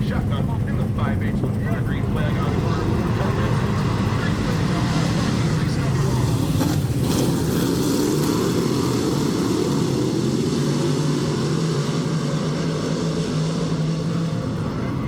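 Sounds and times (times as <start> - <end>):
drone of many race car engines: 0.0 - 15.0.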